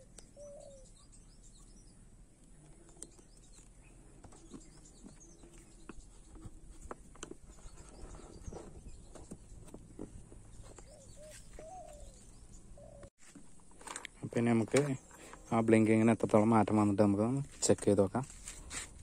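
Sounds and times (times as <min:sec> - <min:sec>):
birds calling faintly: 0:00.0 - 0:19.0.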